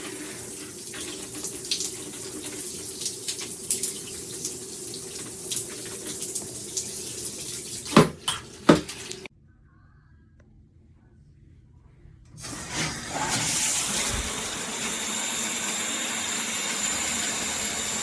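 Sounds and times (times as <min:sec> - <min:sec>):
shower head spraying water: 0:00.0 - 0:09.3, 0:12.4 - 0:18.0.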